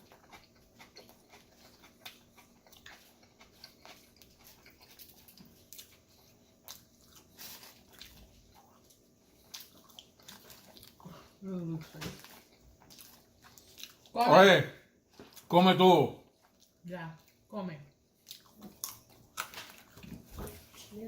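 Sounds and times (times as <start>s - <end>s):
person chewing food: 0.0s - 14.2s, 14.9s - 15.5s, 16.2s - 20.9s.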